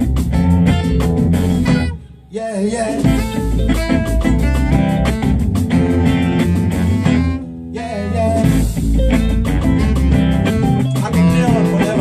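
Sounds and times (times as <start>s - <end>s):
live band playing: 0.0s - 12.0s
saxophone: 0.0s - 12.0s.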